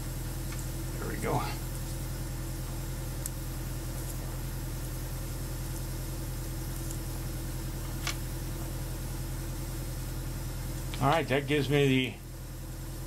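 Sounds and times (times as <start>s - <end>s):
compressor droning: 0.0s - 13.0s.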